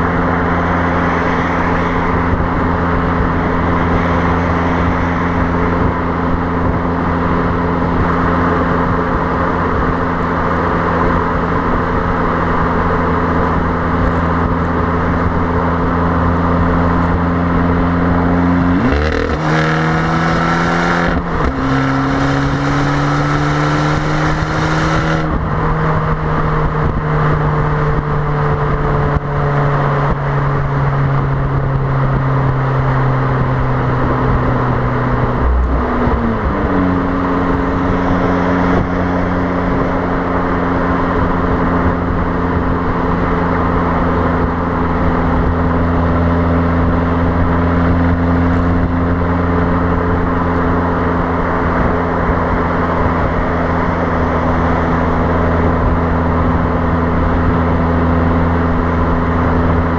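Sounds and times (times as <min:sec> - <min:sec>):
car exhaust droning: 0:00.0 - 0:59.9
wind noise on microphone: 0:00.0 - 0:59.9.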